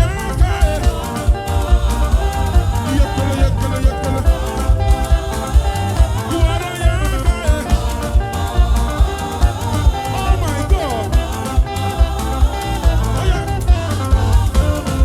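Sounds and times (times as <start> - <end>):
bass: 0.0 - 15.0
drums: 0.0 - 15.0
gospel band playing: 0.0 - 15.0
keyboard or guitar lines: 0.0 - 15.0.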